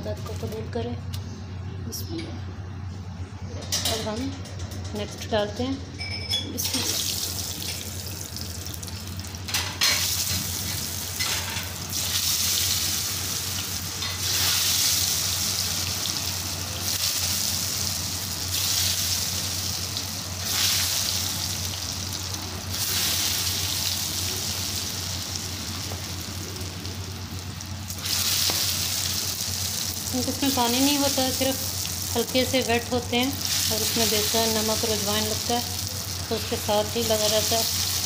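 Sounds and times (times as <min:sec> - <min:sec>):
fries sizzling in hot oil: 0:06.6 - 0:38.0.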